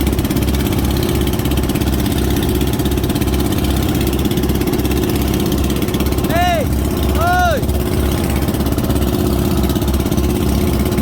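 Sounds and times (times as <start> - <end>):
motorboat engine throbbing: 0.0 - 11.0.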